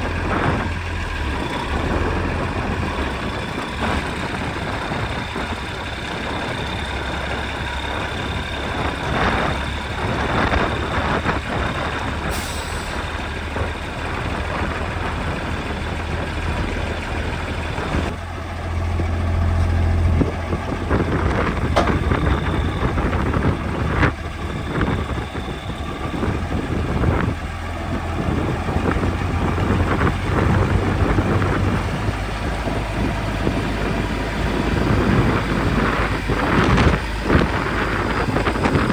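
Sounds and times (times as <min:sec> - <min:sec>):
lorry diesel engine running: 0:00.0 - 0:38.9.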